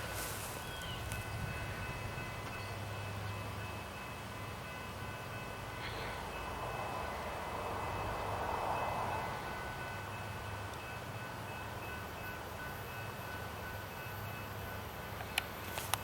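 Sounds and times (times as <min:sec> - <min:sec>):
distant train rumbling: 0:00.0 - 0:16.0.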